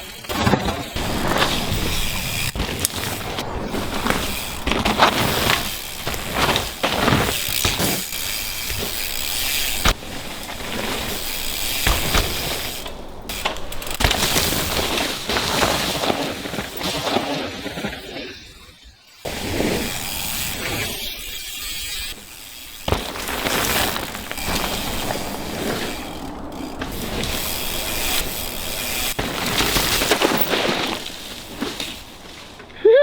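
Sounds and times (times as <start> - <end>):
bike clattering knocks: 0.0 - 17.3, 19.3 - 32.8
bike tyres crunching on dirt: 0.0 - 33.0.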